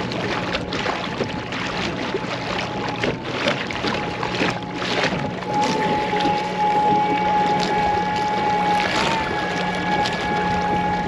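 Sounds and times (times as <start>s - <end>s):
water rushing and splashing along hull: 0.0s - 11.0s
faint electric motor hum: 2.0s - 11.0s.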